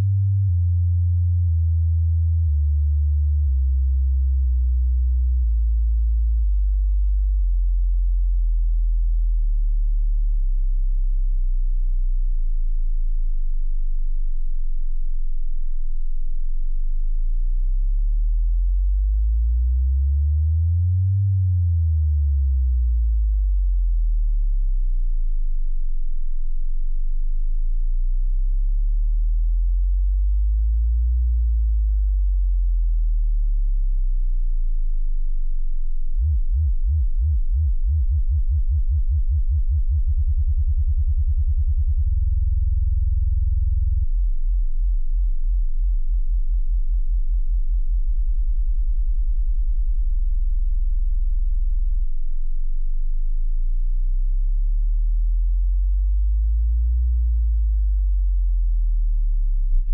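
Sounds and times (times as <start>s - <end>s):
low electronic bass line: 0.0s - 59.9s.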